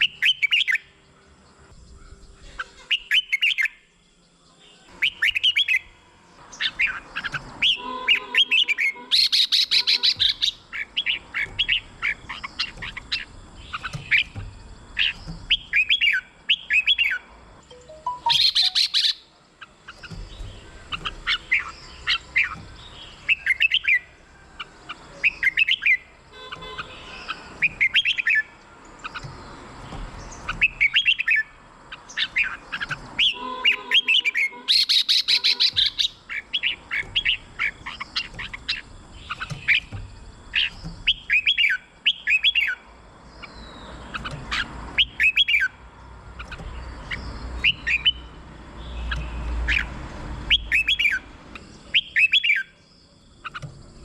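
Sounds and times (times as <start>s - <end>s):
bird song whistled notes: 0.0s - 5.9s, 6.5s - 45.8s, 46.4s - 53.8s.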